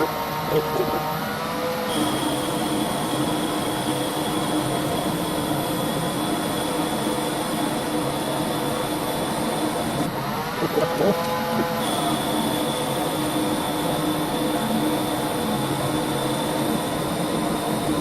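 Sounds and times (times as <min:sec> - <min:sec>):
lathe running with high whine: 0:00.0 - 0:18.0.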